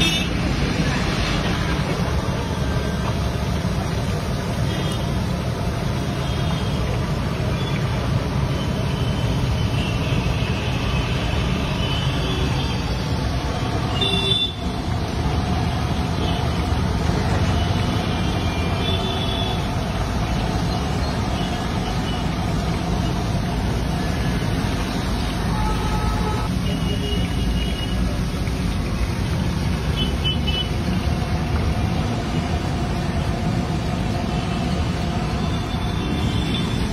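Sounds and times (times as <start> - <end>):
roadside traffic noise: 0.0 - 36.9.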